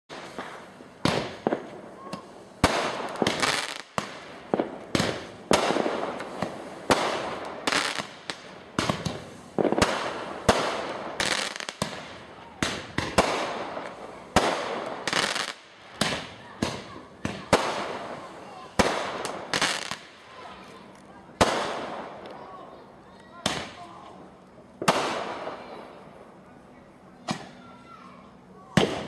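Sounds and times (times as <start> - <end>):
fireworks bangs: 0.1 - 22.8, 23.4 - 24.2, 24.8 - 26.3, 28.6 - 29.0.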